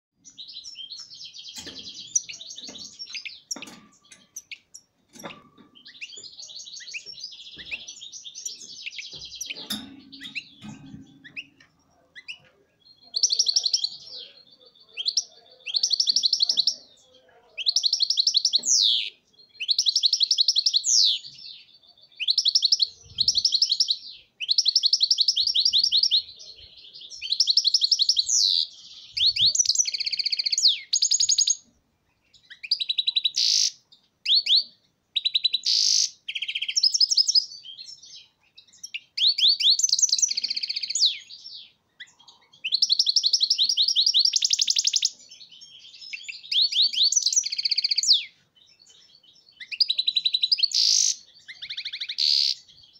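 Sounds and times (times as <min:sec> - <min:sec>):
goldfinch singing trills: 0:00.2 - 0:52.9.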